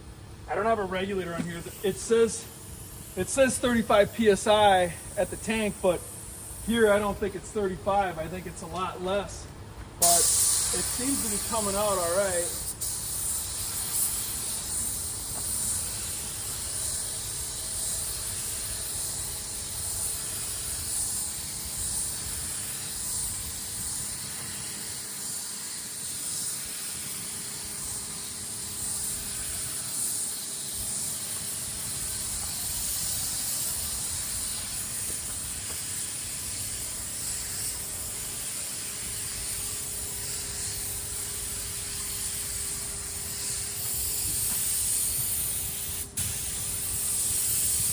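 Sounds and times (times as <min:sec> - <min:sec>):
paint spray gun hissing: 0:00.6 - 0:09.2, 0:10.0 - 0:47.9.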